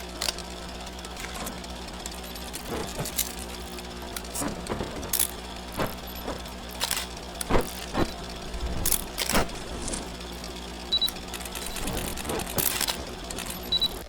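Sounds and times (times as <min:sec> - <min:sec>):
film projector humming: 0:00.0 - 0:14.0
film crackles and pops: 0:01.0 - 0:14.0.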